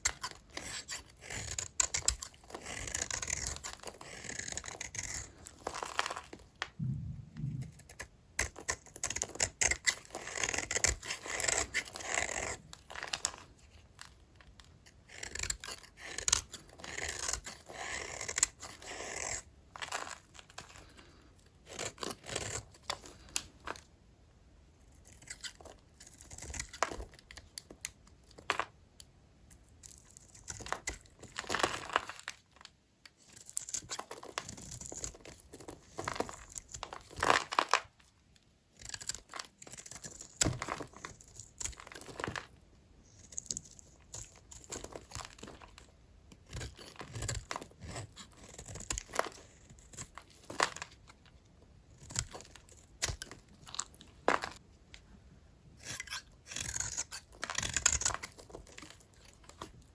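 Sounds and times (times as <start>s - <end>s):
blade crunching through dry soap: 0.0s - 6.8s, 7.9s - 23.9s, 24.8s - 28.8s, 29.8s - 55.2s, 55.8s - 59.9s.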